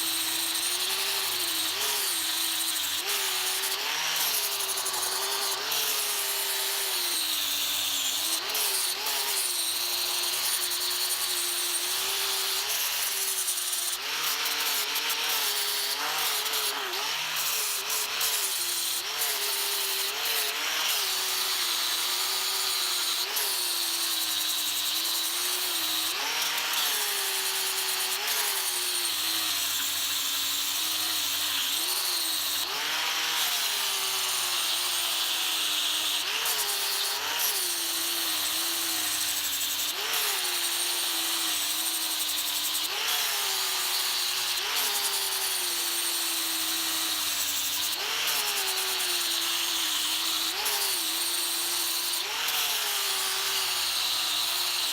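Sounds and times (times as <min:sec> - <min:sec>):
electric grinder grinding steel: 0:00.0 - 0:54.9.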